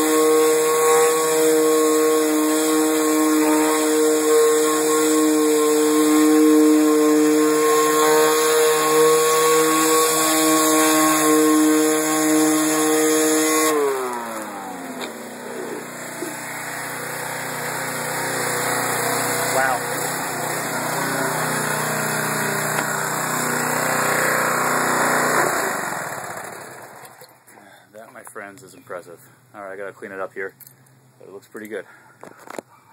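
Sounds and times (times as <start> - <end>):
pressure washer running: 0.0 - 27.2.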